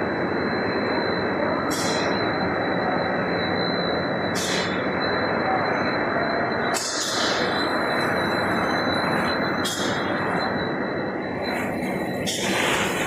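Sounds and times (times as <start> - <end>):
high machine whine: 0.0 - 13.0
production line machinery din: 0.0 - 13.0.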